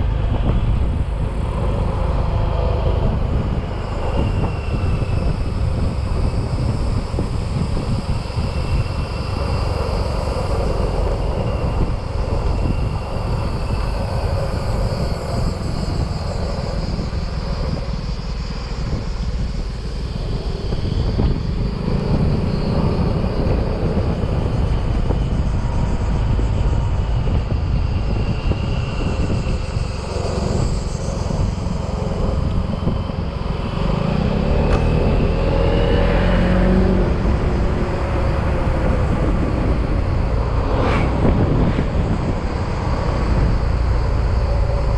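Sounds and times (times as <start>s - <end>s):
wind and road noise: 0.0s - 44.9s.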